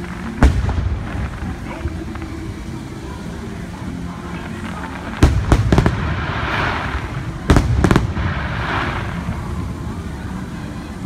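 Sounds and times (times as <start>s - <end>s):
firework crackling: 0.0s - 11.0s.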